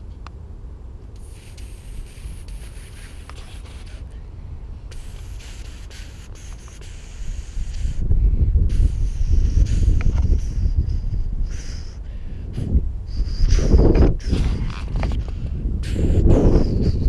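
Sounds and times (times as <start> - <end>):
wind rumbling on microphone: 0.0 - 17.0
rubbing hiss: 1.1 - 17.0.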